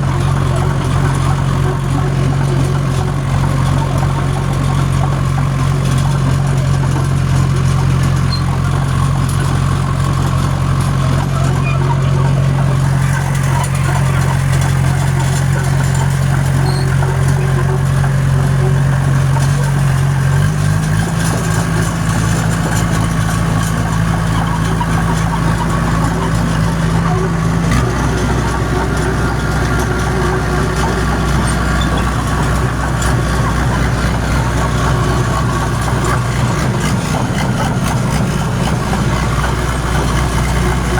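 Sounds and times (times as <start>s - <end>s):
dozer diesel engine under load: 0.0s - 40.9s.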